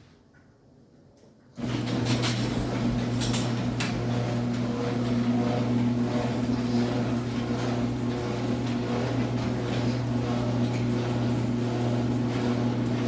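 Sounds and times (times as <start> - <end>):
garage door opener motor hum: 1.6 - 13.0.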